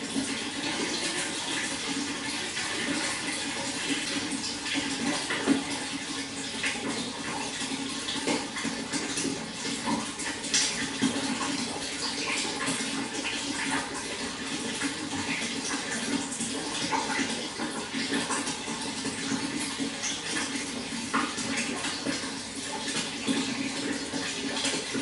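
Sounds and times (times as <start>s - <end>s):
running water with splashes: 0.0s - 25.0s.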